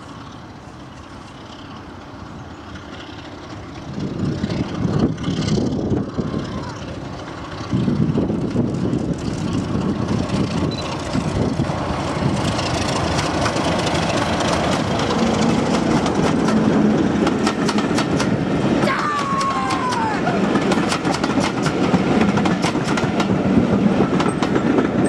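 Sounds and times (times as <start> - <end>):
diesel locomotive engine: 0.0 - 25.0
wheels clicking over rail joints: 0.1 - 25.0.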